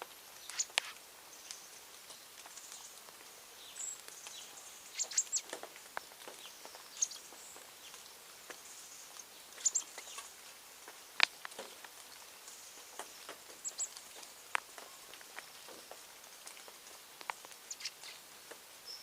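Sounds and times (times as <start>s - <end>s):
birds chirping: 0.3s - 19.0s.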